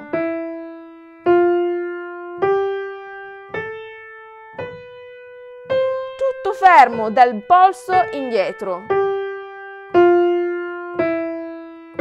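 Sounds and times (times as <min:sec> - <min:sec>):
piano rising scale: 0:00.0 - 0:12.0.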